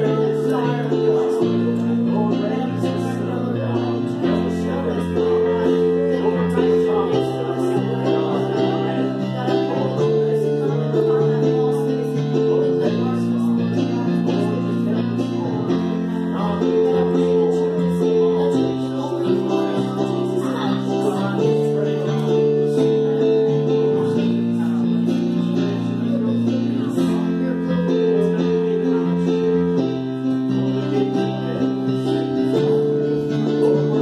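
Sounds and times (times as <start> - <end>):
held keyboard chords: 0.0 - 34.0.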